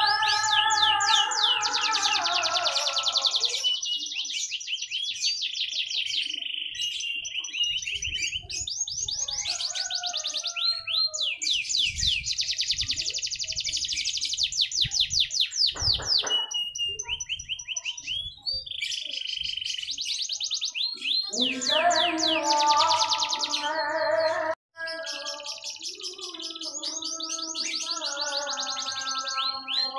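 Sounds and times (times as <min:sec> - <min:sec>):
canary singing trills: 0:00.0 - 0:29.9.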